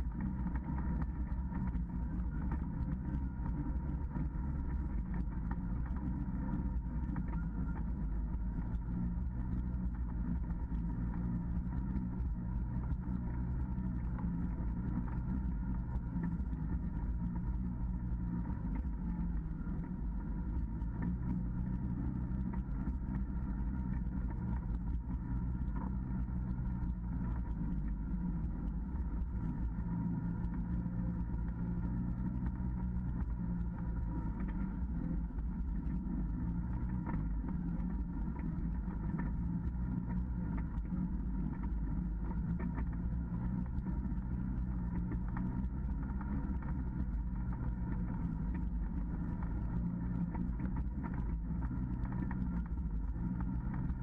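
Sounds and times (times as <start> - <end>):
utility vehicle engine droning: 0.0 - 54.0.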